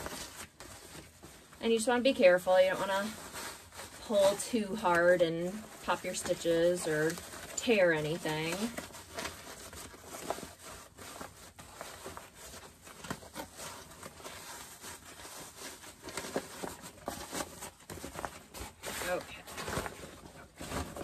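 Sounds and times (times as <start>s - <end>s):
fabric rustling and scraping: 0.0s - 21.0s.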